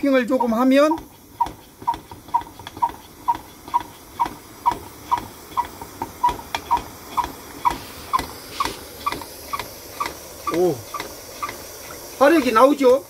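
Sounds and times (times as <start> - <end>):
stove hand pump squeaky puffs: 0.0 - 13.0.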